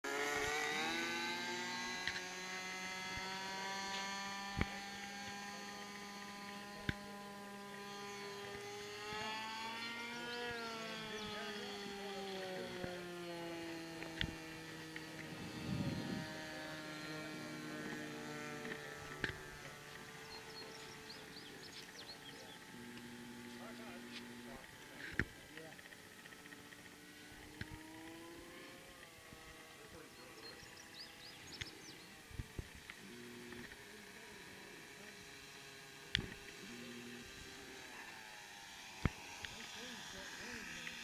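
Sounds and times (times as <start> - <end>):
model plane engine droning: 0.0 - 41.0.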